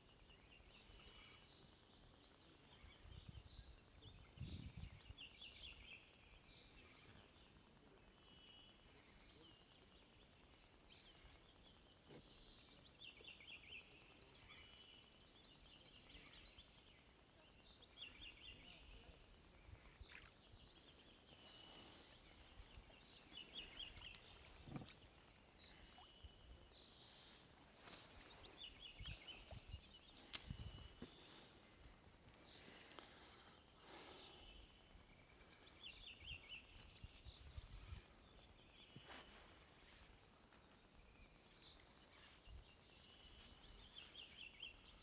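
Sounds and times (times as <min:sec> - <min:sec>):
faint trilled birdsong: 0:00.0 - 0:45.0.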